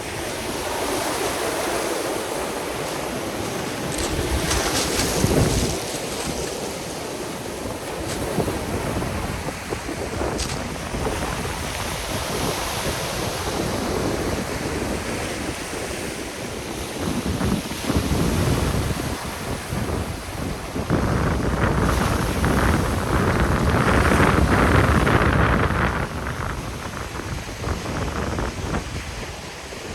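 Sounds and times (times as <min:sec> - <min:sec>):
sea surf breaking on shore: 0:00.0 - 0:29.9
wind buffeting microphone: 0:00.0 - 0:29.9.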